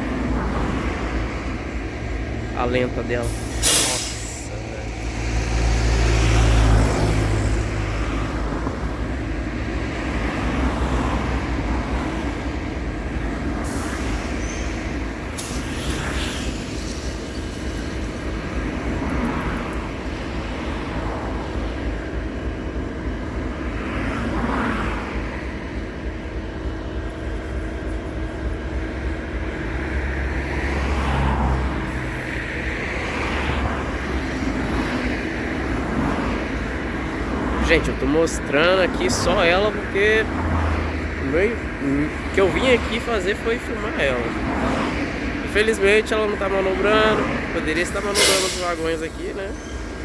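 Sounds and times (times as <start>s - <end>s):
locomotive diesel engine idling: 0.0s - 15.8s, 16.5s - 50.0s.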